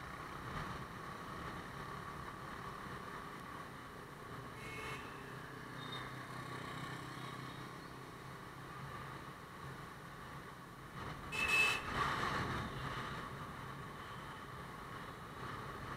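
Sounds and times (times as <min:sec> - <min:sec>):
road and wind noise: 0:00.0 - 0:15.9.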